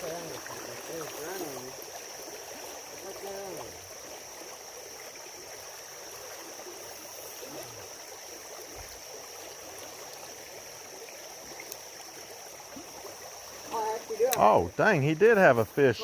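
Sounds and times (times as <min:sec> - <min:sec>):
creek water over rocks: 0:00.0 - 0:16.0.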